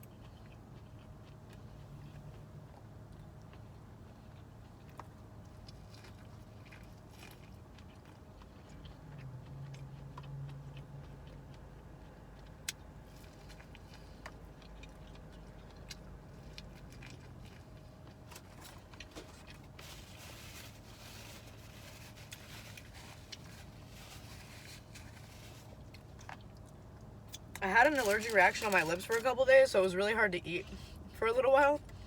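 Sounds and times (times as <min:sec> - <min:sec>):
person chewing food: 0:00.0 - 0:28.7
low steady hum: 0:00.0 - 0:32.0.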